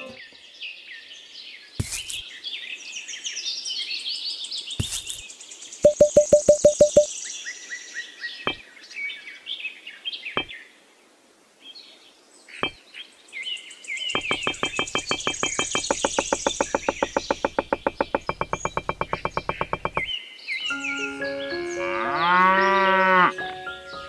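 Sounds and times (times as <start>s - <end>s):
small birds chirping: 0.0s - 10.8s, 11.6s - 24.0s.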